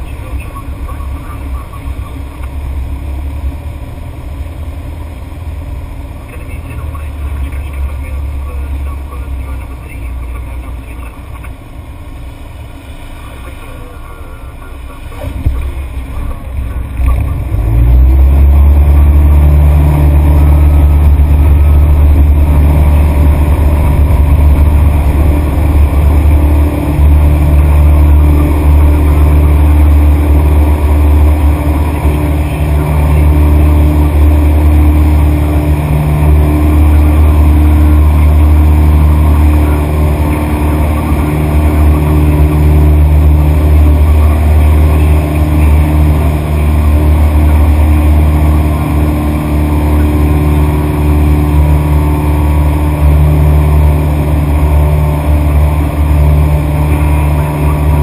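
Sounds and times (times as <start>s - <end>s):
light aircraft engine: 0.0s - 58.0s.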